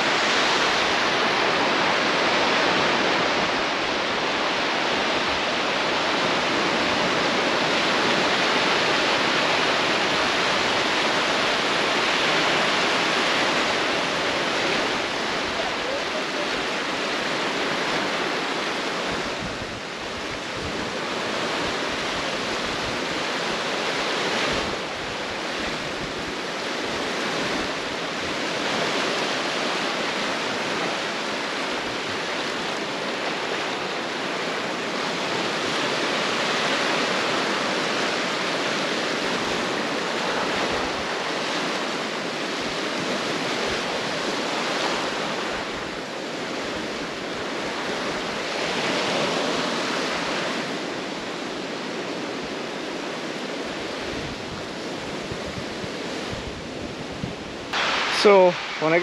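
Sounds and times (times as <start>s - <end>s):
waves washing onto shore: 0.0s - 59.0s
wind on microphone: 0.0s - 59.0s.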